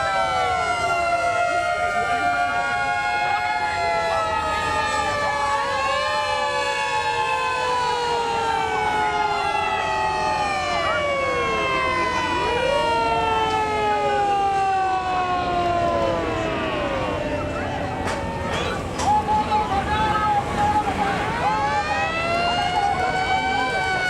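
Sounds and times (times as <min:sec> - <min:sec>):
fire engine sirens wailing: 0:00.0 - 0:24.0.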